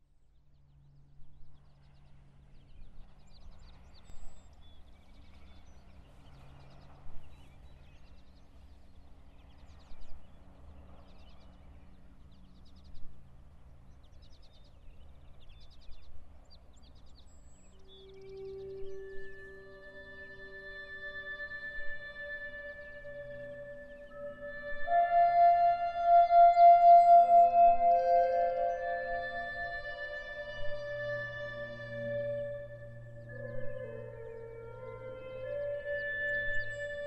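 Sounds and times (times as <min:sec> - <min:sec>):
steady low hum: 0:00.3 - 0:37.0
birds chirping in trills: 0:00.7 - 0:37.0.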